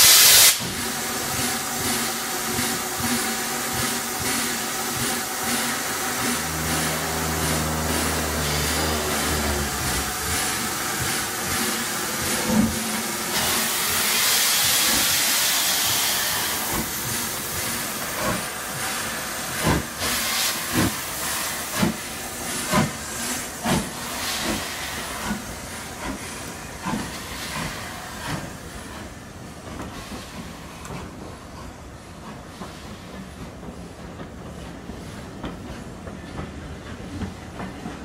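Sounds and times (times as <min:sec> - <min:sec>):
steam hiss: 0:00.0 - 0:38.0
steam locomotive chuffing beat: 0:00.0 - 0:38.0.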